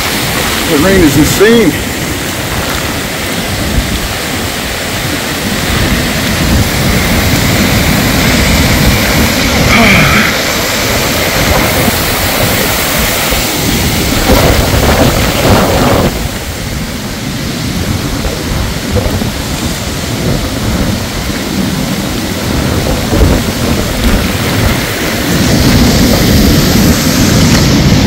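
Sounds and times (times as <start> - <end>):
floodwater rushing: 0.0 - 28.0
heavy rain: 0.0 - 28.0.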